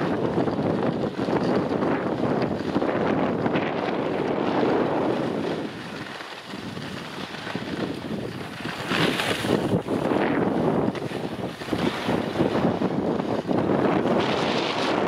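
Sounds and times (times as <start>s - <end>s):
skis scraping over snow: 0.0s - 15.0s
wind rushing over microphone: 0.0s - 15.0s.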